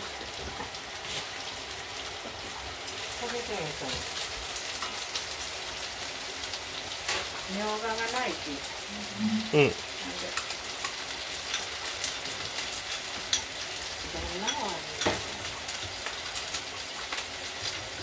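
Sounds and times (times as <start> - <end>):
chicken sizzling in pan: 0.0 - 18.0.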